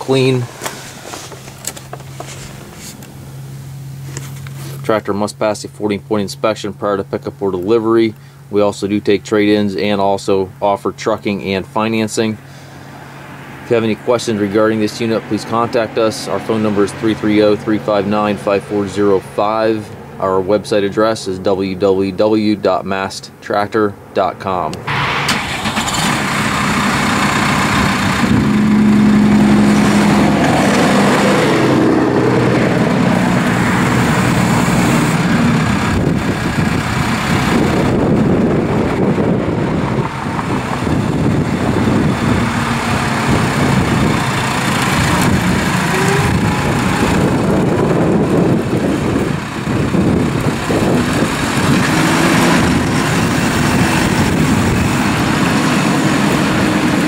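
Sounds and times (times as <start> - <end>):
tractor diesel engine running: 0.0 - 22.6, 24.8 - 57.0.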